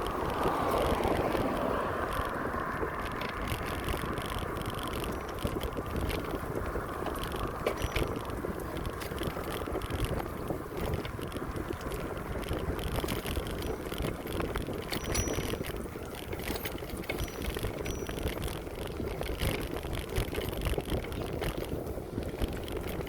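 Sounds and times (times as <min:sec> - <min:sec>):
bicycle tyre noise: 0:00.0 - 0:23.0
bike rattles and clicks: 0:00.0 - 0:23.0
wind rushing over microphone: 0:00.0 - 0:23.0.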